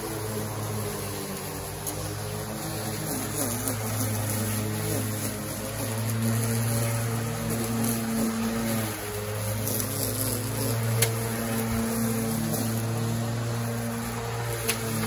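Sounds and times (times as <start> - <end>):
electric lawn mower humming: 0.0 - 15.0
string trimmer running: 0.0 - 15.0.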